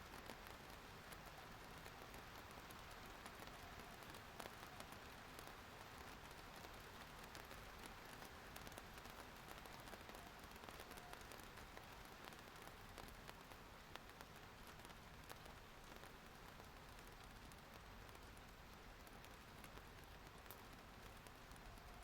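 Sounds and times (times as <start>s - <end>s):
faint rain hiss: 0.0s - 22.0s.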